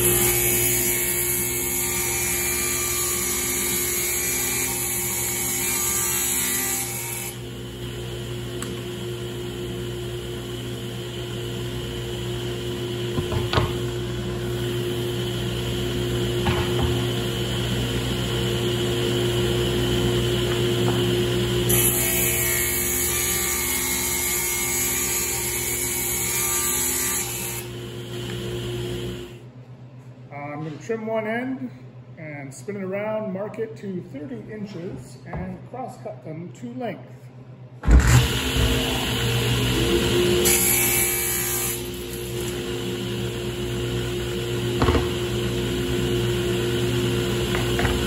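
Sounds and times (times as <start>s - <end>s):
table saw cutting plywood: 0.0s - 29.4s, 37.9s - 48.0s.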